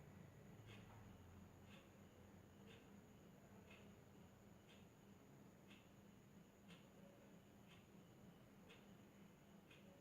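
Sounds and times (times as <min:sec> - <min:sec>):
faint tick: 0:00.4 - 0:10.0.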